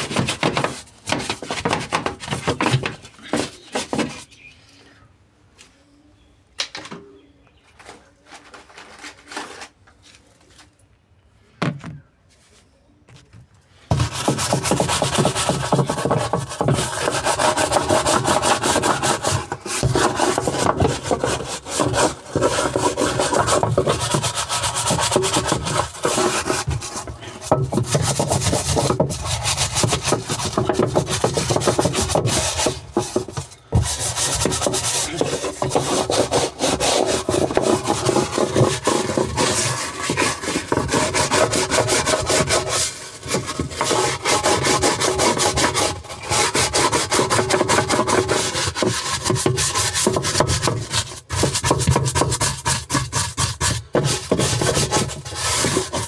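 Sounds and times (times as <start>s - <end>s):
brush scrubbing: 0.0s - 4.3s, 13.9s - 56.0s.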